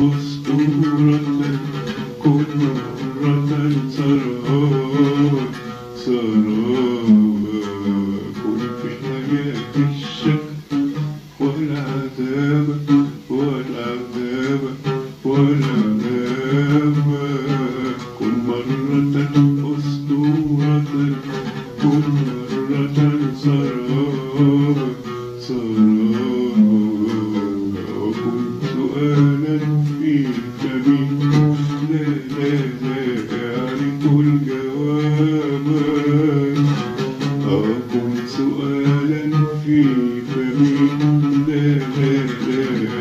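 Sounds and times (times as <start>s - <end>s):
man singing: 0.0s - 43.0s
oud plucked notes: 0.0s - 43.0s.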